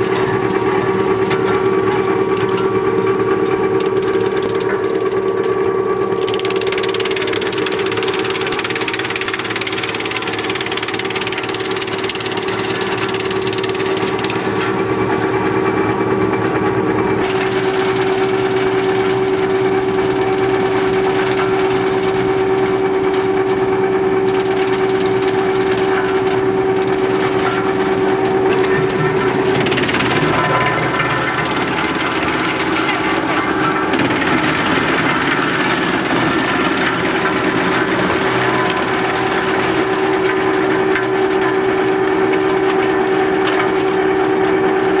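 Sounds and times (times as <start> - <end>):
wood chipper running: 0.0 - 45.0.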